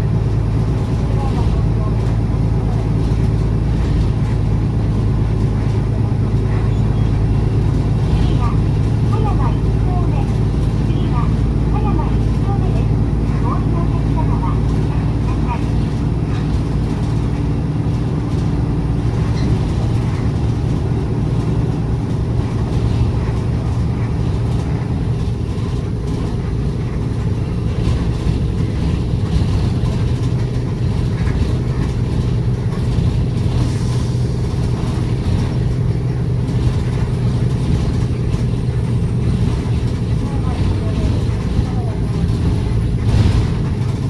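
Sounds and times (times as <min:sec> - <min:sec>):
bus engine droning: 0:00.0 - 0:44.0
tyre and road noise: 0:00.0 - 0:44.0.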